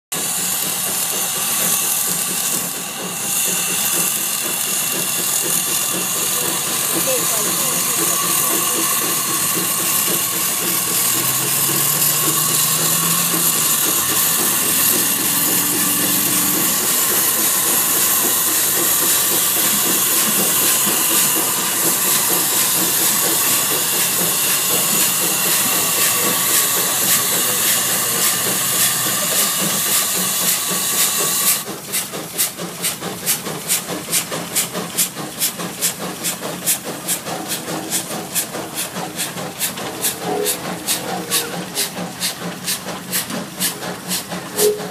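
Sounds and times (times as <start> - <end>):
steam engine exhaust chuffing: 0.1 - 44.9
steam hissing: 0.2 - 44.9.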